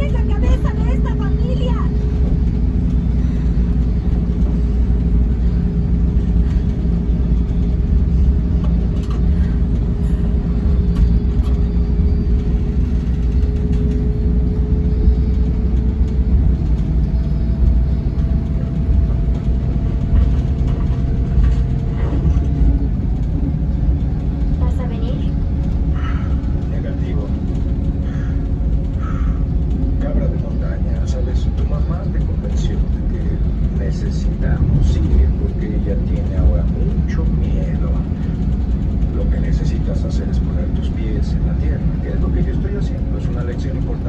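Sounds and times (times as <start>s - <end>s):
bus engine low rumble: 0.0s - 44.0s
steady whine: 0.0s - 44.0s.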